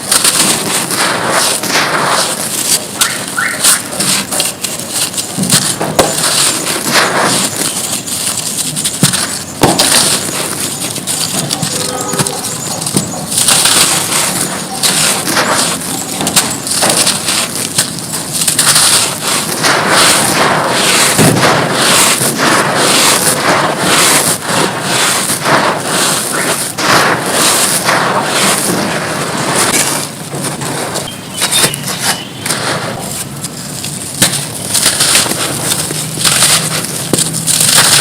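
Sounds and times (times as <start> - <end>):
mud crunching: 0.0 - 38.0.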